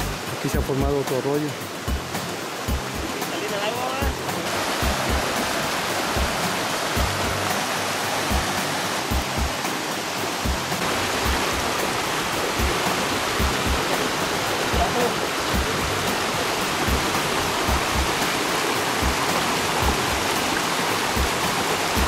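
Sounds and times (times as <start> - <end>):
background music bass thuds: 0.0 - 1.0, 1.6 - 3.2, 4.0 - 22.0
stream running over rocks: 0.0 - 22.0.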